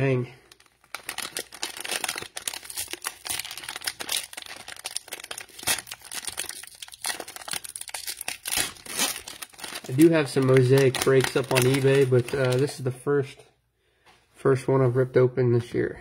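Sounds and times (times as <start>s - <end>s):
plastic wrap crinkling and tearing: 0.0s - 12.9s.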